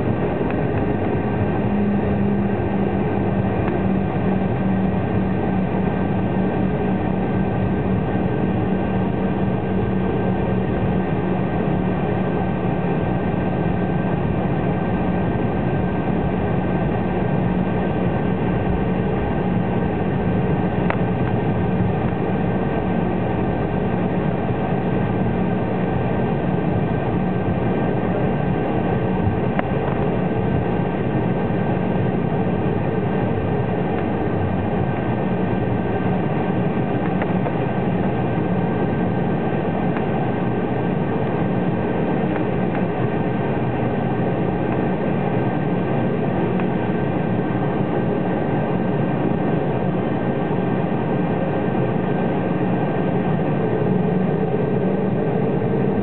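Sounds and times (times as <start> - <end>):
aircraft cabin engine drone: 0.0 - 56.0.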